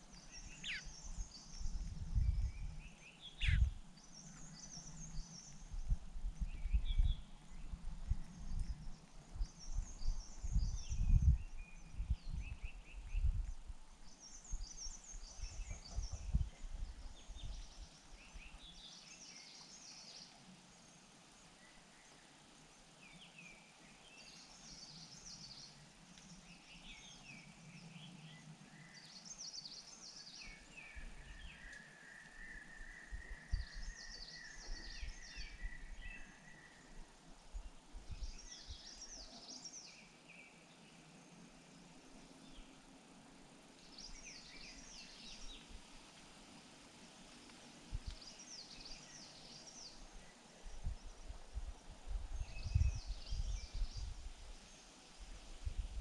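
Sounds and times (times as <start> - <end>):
small birds chirping: 0.0 - 55.2.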